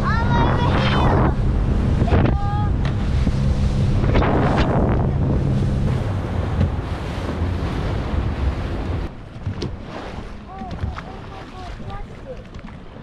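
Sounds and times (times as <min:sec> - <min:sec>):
boat engine humming: 0:00.0 - 0:13.0
rushing water: 0:00.0 - 0:13.0
wind buffeting microphone: 0:00.0 - 0:13.0.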